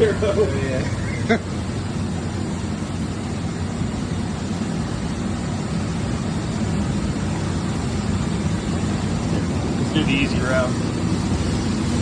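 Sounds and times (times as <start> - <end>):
machining center hum: 0.0 - 12.0.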